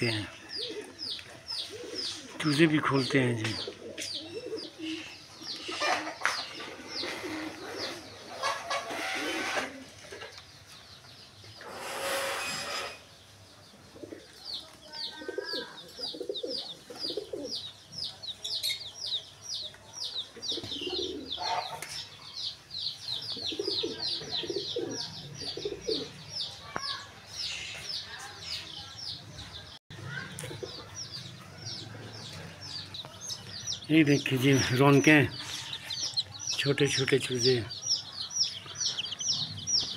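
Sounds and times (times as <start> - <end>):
pigeons cooing: 0.0 - 10.4, 13.8 - 19.2, 20.1 - 26.6, 30.1 - 39.9
chicks peeping: 0.0 - 11.9, 13.1 - 39.9.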